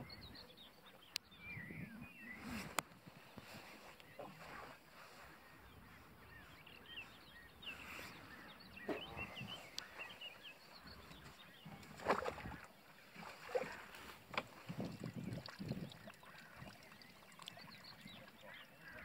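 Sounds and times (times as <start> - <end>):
small birds twittering: 0.0 - 19.0
wind: 0.0 - 19.0.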